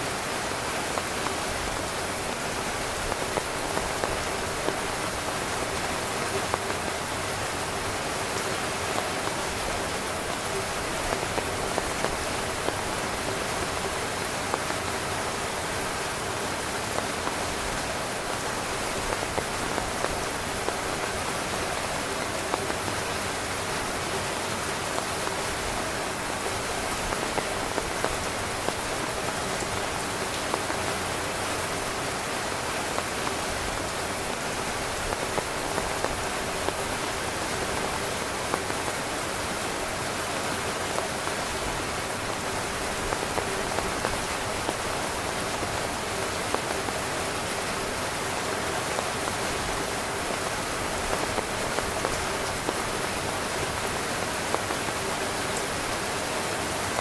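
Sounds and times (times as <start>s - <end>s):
heavy rain drumming on a tent: 0.0s - 57.0s.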